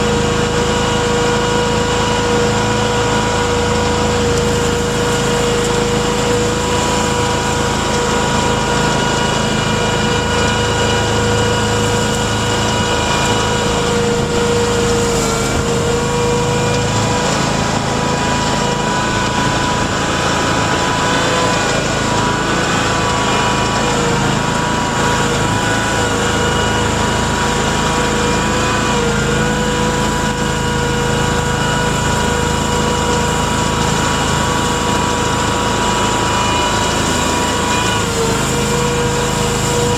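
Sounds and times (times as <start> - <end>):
vehicle engine drone: 0.0 - 39.9.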